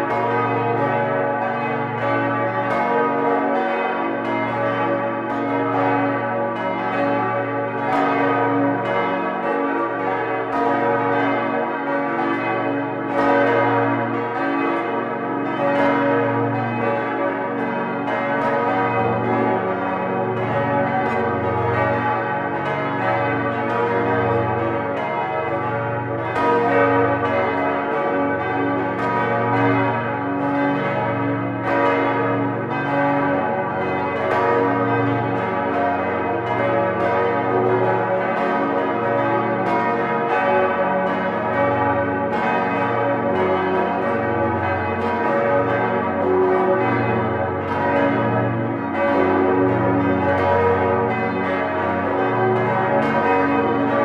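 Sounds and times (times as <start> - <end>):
church bells pealing: 0.0 - 54.0.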